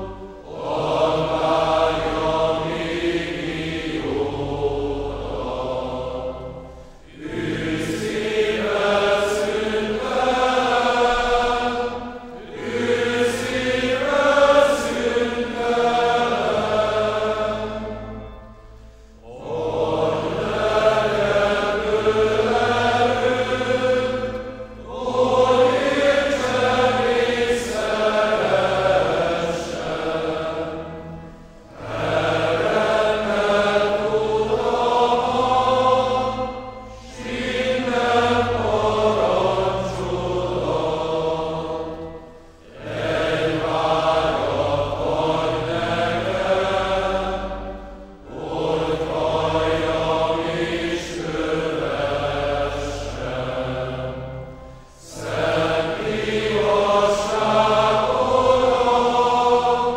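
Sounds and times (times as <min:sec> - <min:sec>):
organ: 0:00.0 - 0:59.9
voices singing a hymn: 0:00.0 - 0:59.9.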